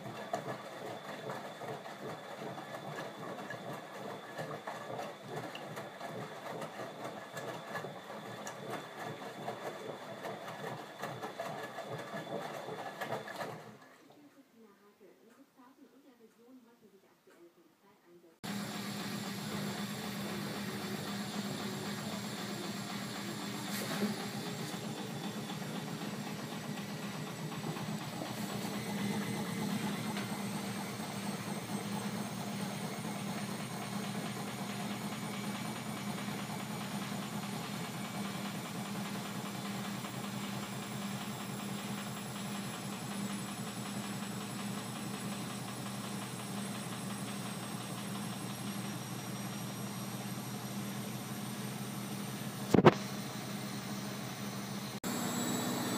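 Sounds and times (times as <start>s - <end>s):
washing machine running: 0.0s - 14.1s, 18.4s - 55.9s.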